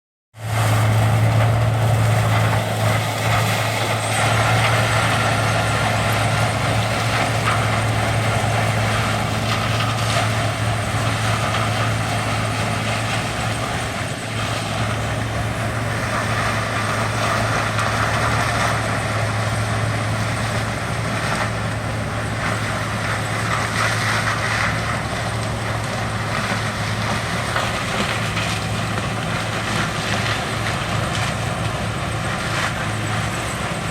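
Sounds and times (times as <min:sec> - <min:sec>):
large engine humming: 0:00.4 - 0:33.9.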